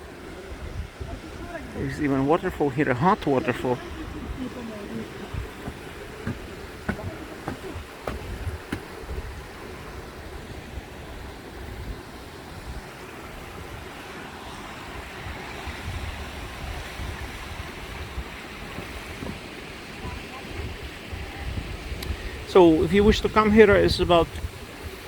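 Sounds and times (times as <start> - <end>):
water rushing from waterfall: 0.0 - 25.0
wind rumbling on microphone: 0.0 - 25.0.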